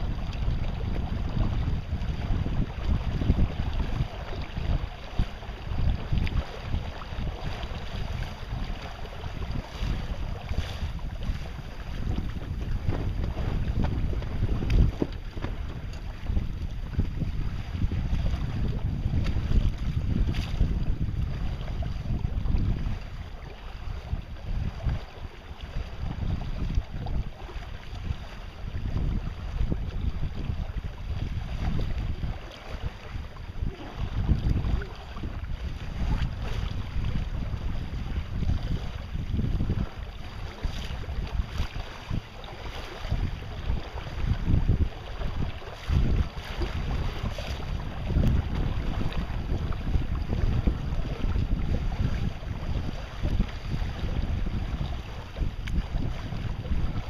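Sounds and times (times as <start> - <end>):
rushing wind and water: 0.0 - 57.0
wind buffeting microphone: 0.0 - 57.0.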